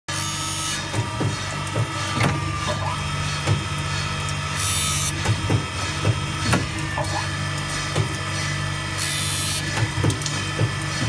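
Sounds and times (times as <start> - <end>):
grinding machine motor hum: 0.1 - 11.0.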